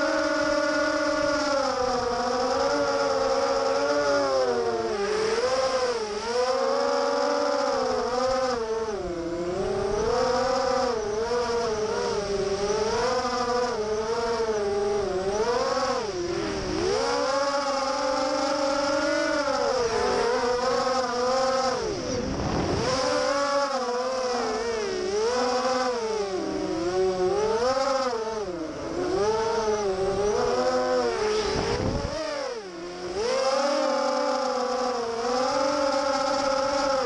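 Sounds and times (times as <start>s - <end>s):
quadcopter motors whining: 0.0s - 37.0s.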